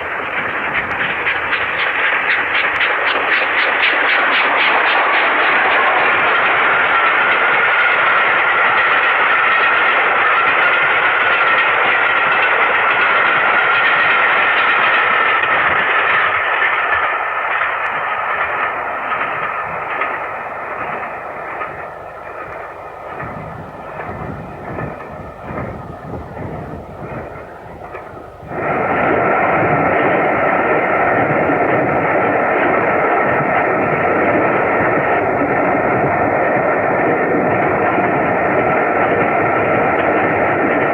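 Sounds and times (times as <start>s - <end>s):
steam train running at speed: 0.0s - 40.9s.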